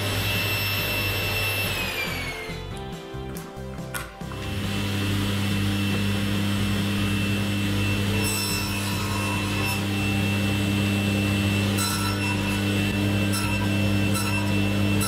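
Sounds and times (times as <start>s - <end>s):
saw blade cutting wood: 0.0s - 2.8s, 4.3s - 15.0s
table saw motor hum: 0.0s - 3.0s, 4.2s - 15.0s.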